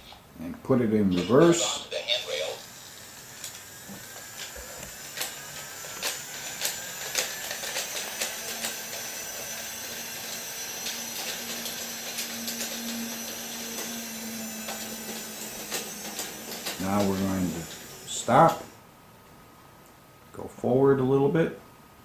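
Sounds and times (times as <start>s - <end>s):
toy train motor whirring: 1.2s - 18.8s.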